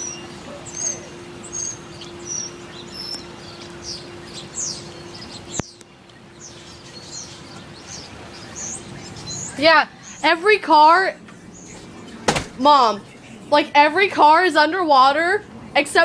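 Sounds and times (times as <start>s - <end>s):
faint hum: 0.0s - 16.0s
small birds chirping: 0.0s - 16.0s.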